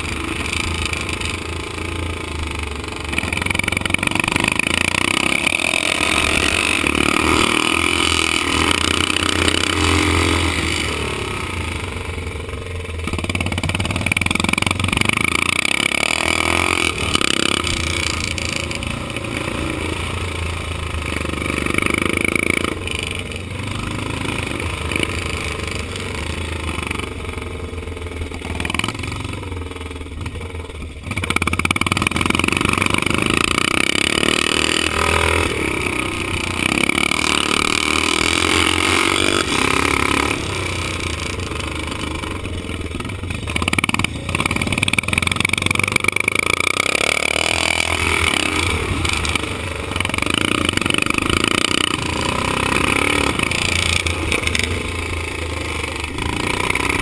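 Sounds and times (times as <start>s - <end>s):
motorcycle engine racing: 0.0s - 57.0s.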